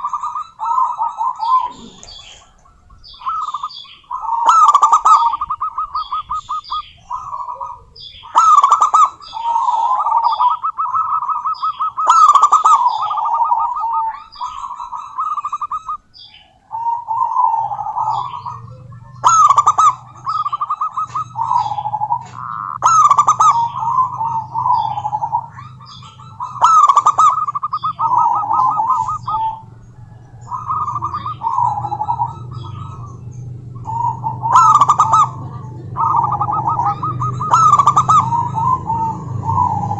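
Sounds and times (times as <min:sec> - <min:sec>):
sharp high bird chirps: 0:00.0 - 0:35.4
doves cooing: 0:00.0 - 0:39.9
low steady hum: 0:00.0 - 0:39.9.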